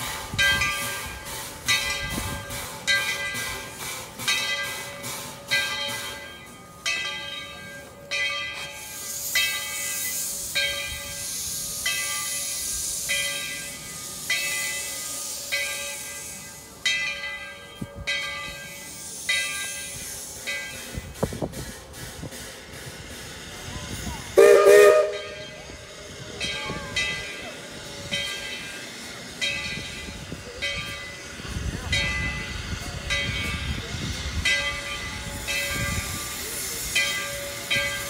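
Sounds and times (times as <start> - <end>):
steam hissing: 0.0 - 6.7, 7.8 - 38.0
steam locomotive bell ringing: 0.0 - 38.0.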